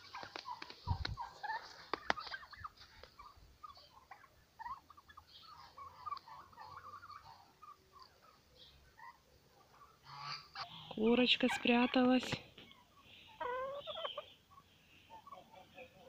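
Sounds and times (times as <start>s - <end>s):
turkeys chirping and peeping: 0.0s - 16.0s.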